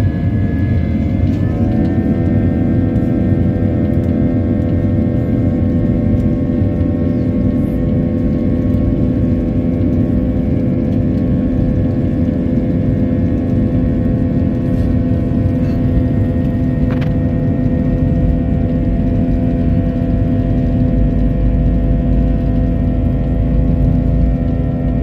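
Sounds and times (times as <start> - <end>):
jet engines droning: 0.0 - 25.0.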